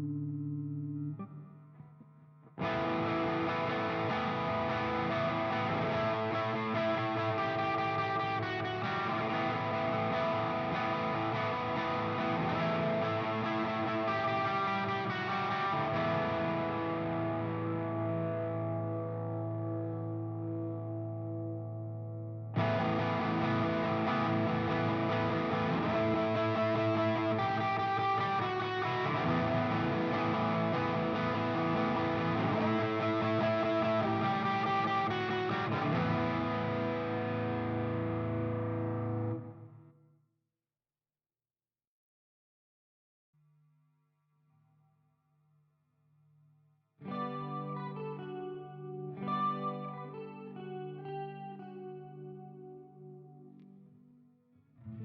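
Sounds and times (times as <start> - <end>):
electric guitar ringing chords: 0.0 - 39.9, 47.0 - 55.0.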